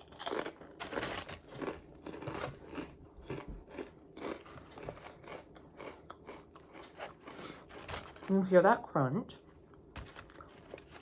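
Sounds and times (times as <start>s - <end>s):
crunching and chewing fried food: 0.0s - 8.5s, 9.6s - 11.0s.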